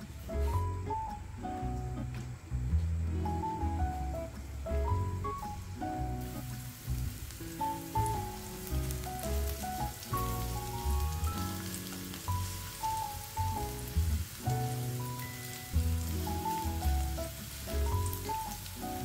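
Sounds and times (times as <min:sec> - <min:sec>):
background music with bass: 0:00.0 - 0:19.0
garlic sizzling in oil: 0:03.1 - 0:19.0.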